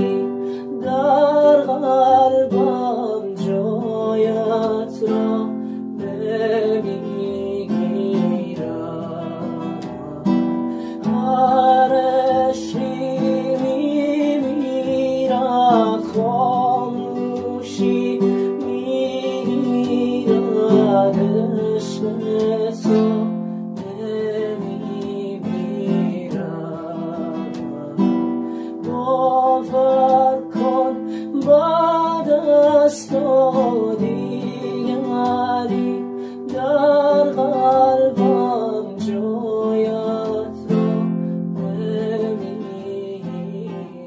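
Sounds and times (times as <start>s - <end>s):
acoustic guitar strumming: 0.0s - 44.0s
man singing: 0.0s - 44.0s.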